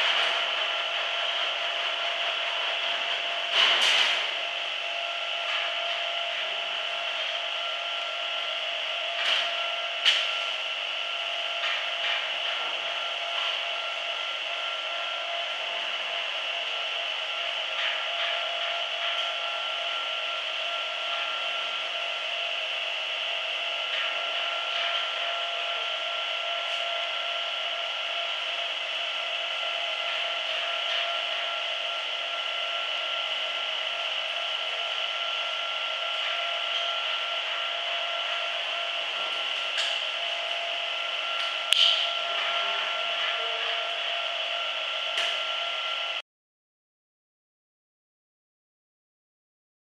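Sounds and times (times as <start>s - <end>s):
faint steady whine: 0.0s - 46.2s
rug-beating machine scraping: 0.0s - 46.2s.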